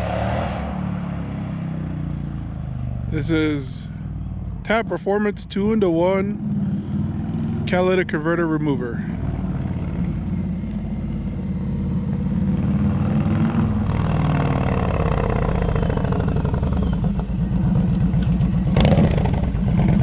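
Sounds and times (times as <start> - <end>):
motorcycle engine rumbling: 0.6 - 20.0.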